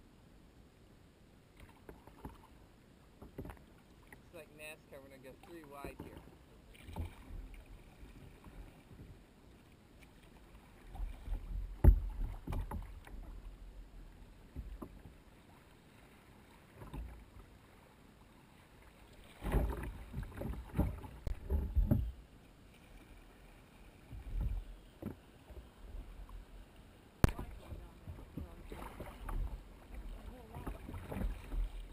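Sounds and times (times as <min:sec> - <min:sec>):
quiet water noise: 0:00.0 - 0:31.9
water slapping against hull: 0:01.5 - 0:02.6, 0:03.2 - 0:09.2, 0:10.0 - 0:31.9
kayak paddle splashing: 0:01.5 - 0:31.9.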